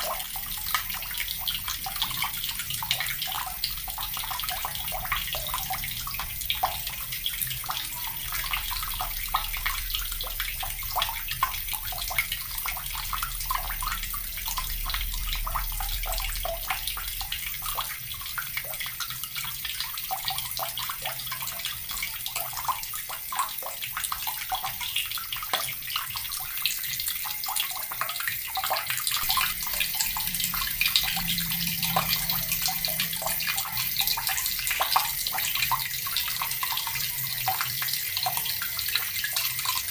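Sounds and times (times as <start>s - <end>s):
tap water running into bucket: 0.0s - 39.9s.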